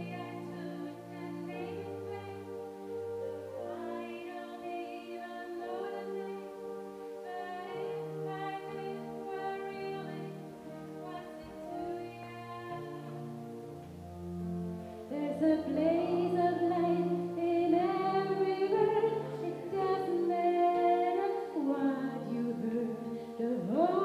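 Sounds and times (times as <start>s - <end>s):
gospel choir singing chords: 0.0s - 24.0s.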